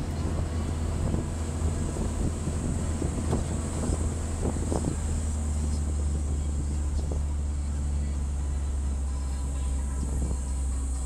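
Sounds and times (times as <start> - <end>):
vehicle engine and road drone: 0.0 - 11.0.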